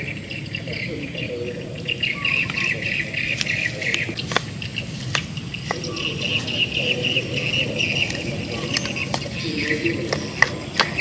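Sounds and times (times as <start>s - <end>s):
birds or insects chirping: 0.0s - 11.0s.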